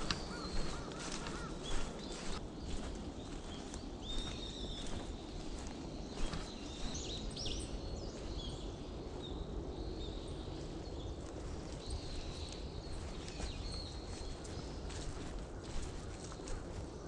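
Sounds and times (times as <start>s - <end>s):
footsteps on woodland path: 0.0s - 17.0s
small birds chirping: 0.0s - 17.0s.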